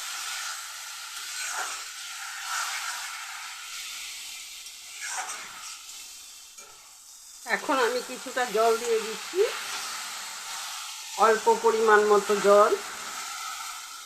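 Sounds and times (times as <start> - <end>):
food sizzling in oil: 0.0 - 14.0
food swishing in pan: 0.0 - 14.0.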